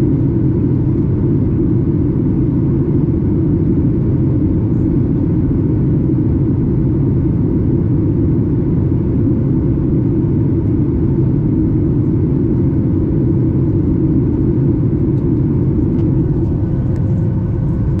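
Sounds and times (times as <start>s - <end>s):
faint steady hum: 0.0s - 18.0s
jet engines rumbling: 0.0s - 18.0s.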